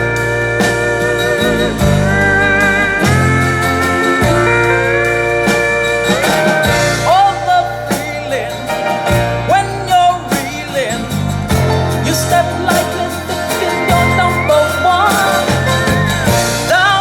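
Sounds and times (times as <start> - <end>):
bass line: 0.0 - 17.0
drum beat: 0.0 - 17.0
slide guitar: 0.0 - 17.0.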